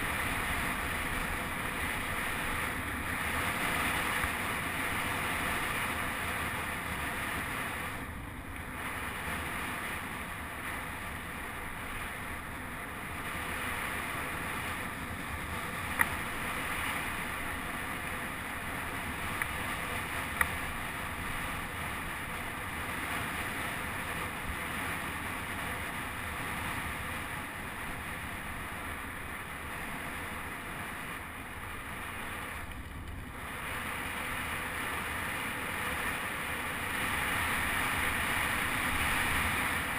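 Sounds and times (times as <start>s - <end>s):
bike tyres rolling on gravel: 0.0s - 39.9s
wind rushing over camera: 0.0s - 39.9s.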